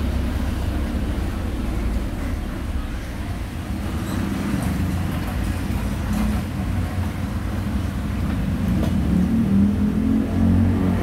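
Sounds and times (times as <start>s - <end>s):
street traffic rumble: 0.0s - 11.0s
vehicle engine running: 0.0s - 11.0s.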